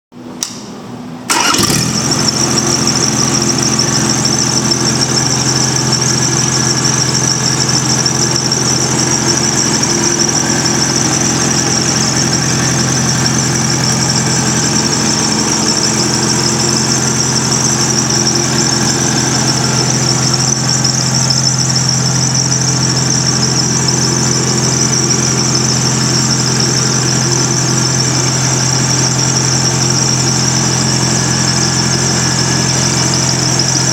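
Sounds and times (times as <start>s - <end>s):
diesel engine starting and running: 0.2s - 33.9s
high saw whine: 1.6s - 33.9s.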